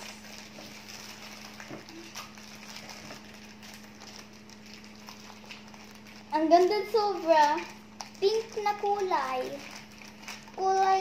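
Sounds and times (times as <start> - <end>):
plastic packet crinkling: 0.0 - 11.0
steady low hum: 0.0 - 11.0.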